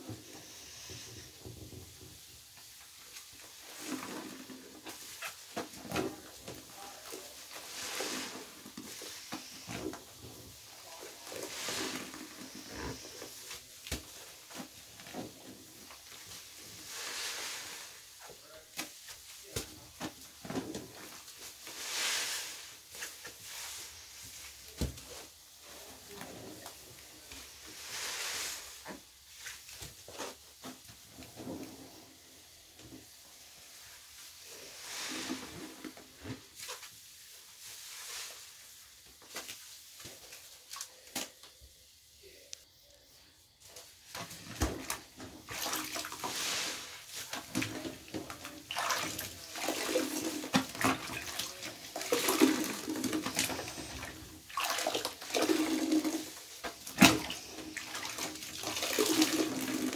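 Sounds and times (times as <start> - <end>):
wet sponges squelching: 0.0 - 41.5, 43.7 - 59.9
foam hissing and crackling: 0.0 - 59.9.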